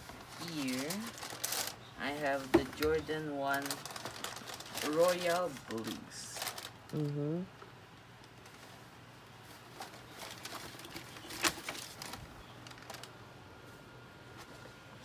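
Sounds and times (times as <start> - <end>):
box and packaging rustling: 0.0 - 7.1, 8.2 - 15.0.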